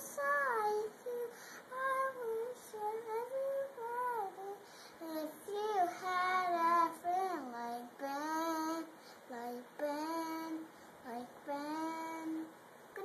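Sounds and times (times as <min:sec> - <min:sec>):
boy singing: 0:00.0 - 0:13.0.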